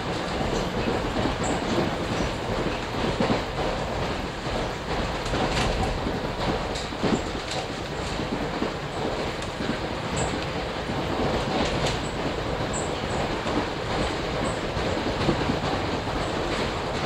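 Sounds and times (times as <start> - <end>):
rail joint clicks: 0.0 - 17.0
train wheels rumbling on rails: 0.0 - 17.0.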